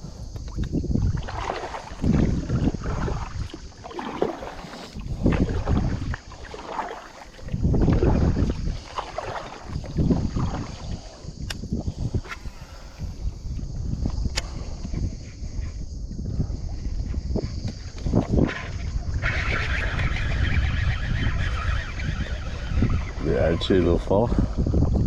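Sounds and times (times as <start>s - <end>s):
water washing around boat: 0.0s - 13.6s, 16.4s - 25.0s
wind buffeting microphone: 0.0s - 25.0s.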